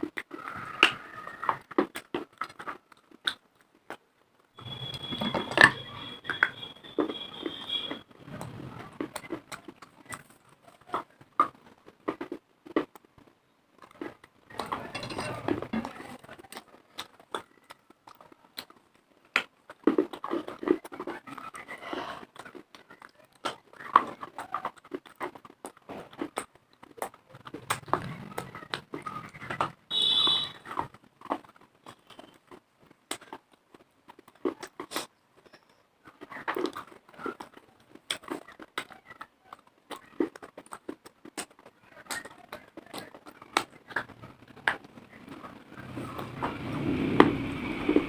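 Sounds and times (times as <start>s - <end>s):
crunching and chewing chalk: 0.0s - 48.0s.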